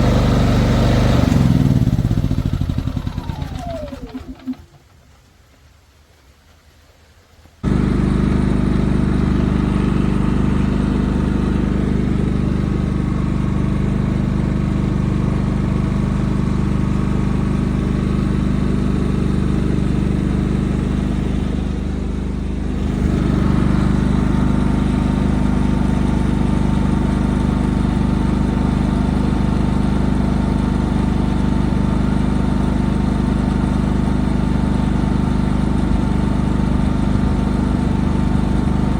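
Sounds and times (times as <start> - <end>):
generator engine hum: 0.0 - 5.5, 7.6 - 38.9.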